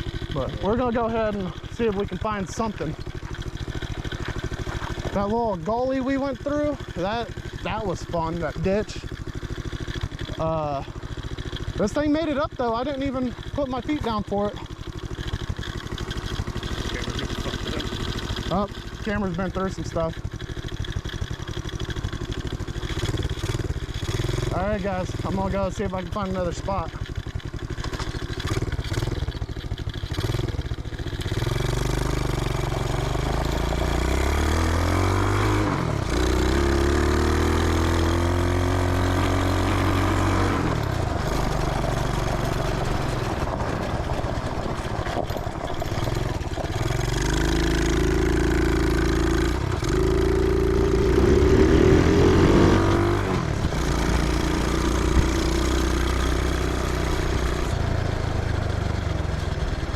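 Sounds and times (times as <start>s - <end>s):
small atv engine revving: 0.0s - 59.9s.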